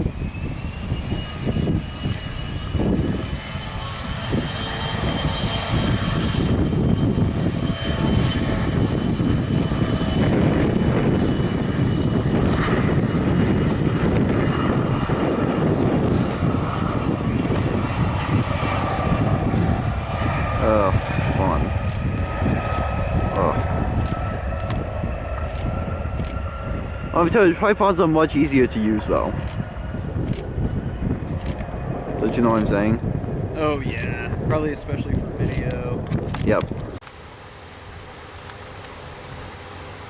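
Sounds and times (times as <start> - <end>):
jet engine rumble: 0.0 - 40.0
jet engine whine: 0.0 - 40.0.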